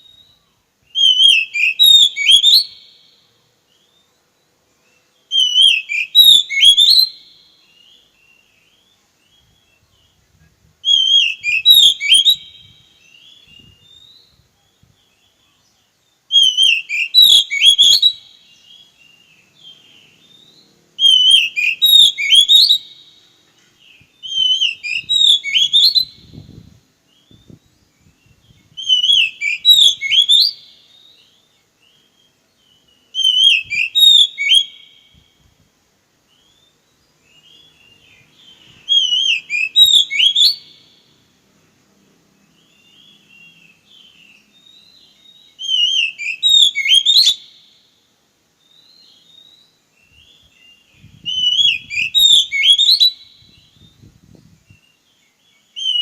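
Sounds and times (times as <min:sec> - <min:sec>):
bird singing whistled phrase: 0:00.0 - 0:03.0, 0:05.3 - 0:10.2, 0:10.8 - 0:23.1, 0:23.9 - 0:35.4, 0:36.3 - 0:41.0, 0:42.6 - 0:47.7, 0:48.6 - 0:56.0.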